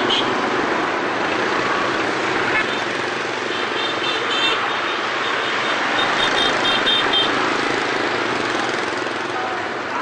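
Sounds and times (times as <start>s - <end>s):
dense motorbike and car traffic: 0.0s - 10.0s.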